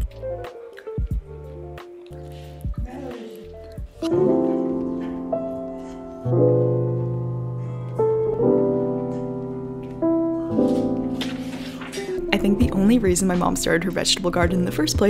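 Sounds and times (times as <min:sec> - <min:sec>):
slow soft piano chords: 0:00.0 - 0:14.8.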